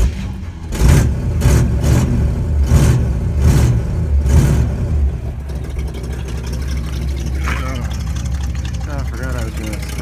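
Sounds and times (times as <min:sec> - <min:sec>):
car engine idling: 0:00.0 - 0:10.0
car engine throttle blips: 0:00.0 - 0:10.0.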